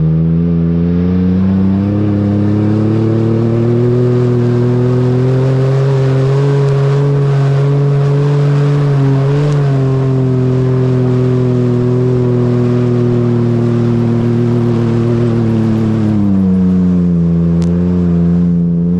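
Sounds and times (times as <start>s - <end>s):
car engine under throttle: 0.0s - 18.9s.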